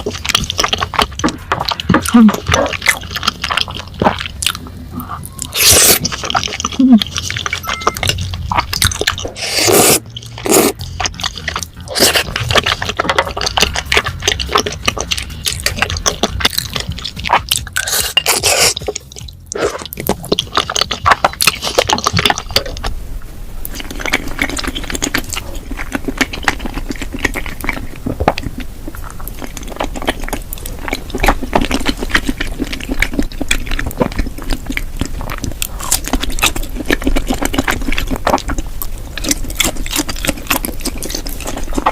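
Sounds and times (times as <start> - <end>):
wet chewing and mouth sounds: 0.0 - 23.0, 23.6 - 41.9.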